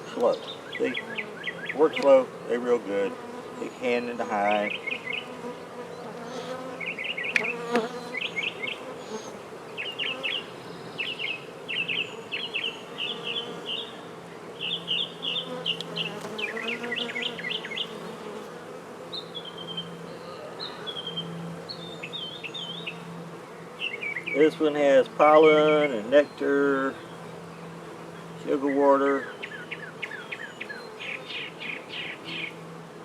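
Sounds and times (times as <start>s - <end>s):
bird chirping: 0.0s - 2.7s, 3.4s - 18.1s, 19.1s - 32.6s
honey bees buzzing: 0.0s - 33.0s.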